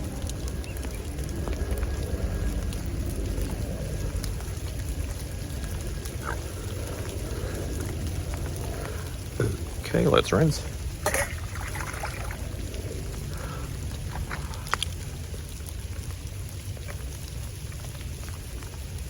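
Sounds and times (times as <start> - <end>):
low rumble: 0.0 - 9.9, 10.6 - 19.0
faint scattered ticks: 0.0 - 19.0
steady rain falling: 0.0 - 19.0.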